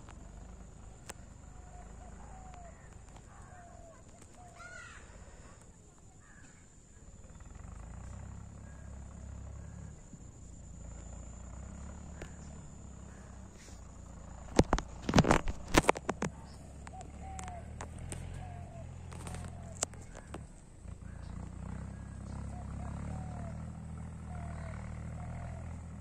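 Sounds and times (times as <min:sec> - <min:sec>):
bird calls: 0:00.2 - 0:26.0.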